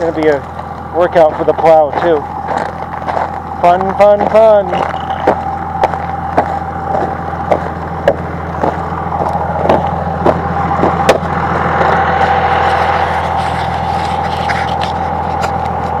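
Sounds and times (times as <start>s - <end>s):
diesel truck engine idling: 0.0s - 16.0s
steady whine: 0.0s - 16.0s.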